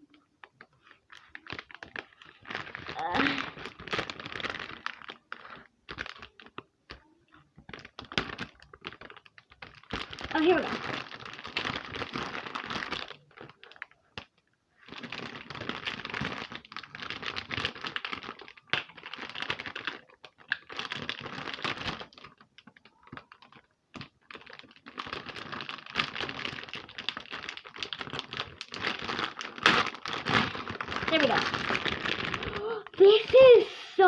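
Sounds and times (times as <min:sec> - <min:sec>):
plastic packaging crinkling: 0:00.1 - 0:33.6.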